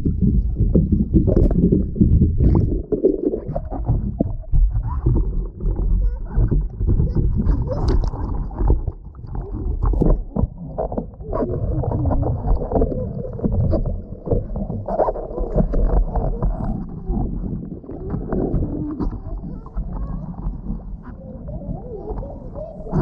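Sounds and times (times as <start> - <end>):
water splashing against a board: 0.0 - 21.3.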